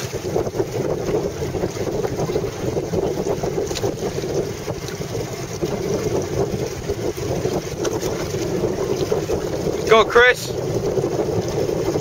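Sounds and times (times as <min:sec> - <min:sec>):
water noise: 0:00.0 - 0:12.0
wind buffeting microphone: 0:00.0 - 0:12.0.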